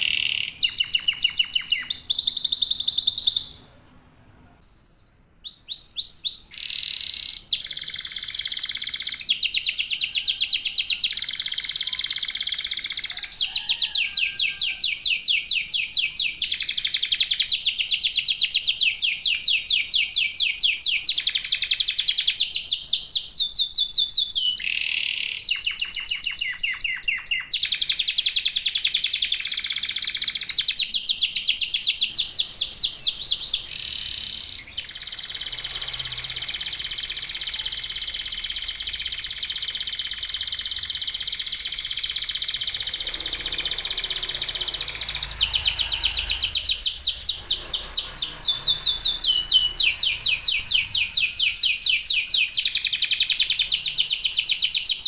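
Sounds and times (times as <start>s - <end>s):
canary trilling: 0.0s - 3.9s, 5.5s - 23.6s, 24.4s - 55.0s.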